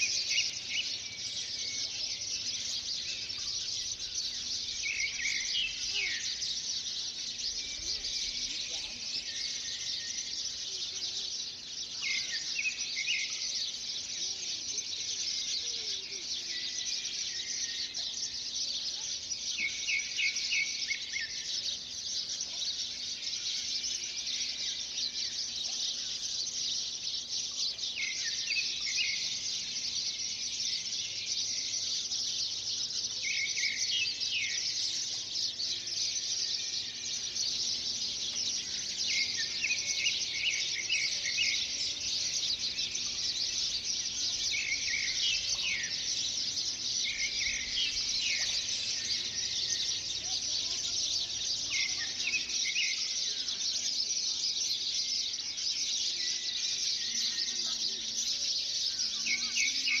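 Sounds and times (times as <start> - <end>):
birds chirping: 0.0 - 60.0.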